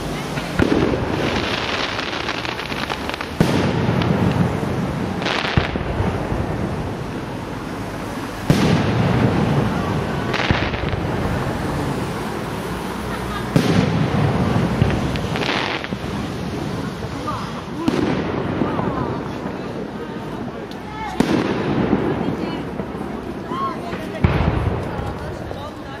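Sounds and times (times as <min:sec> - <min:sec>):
crackling firework stars: 0:00.0 - 0:26.0.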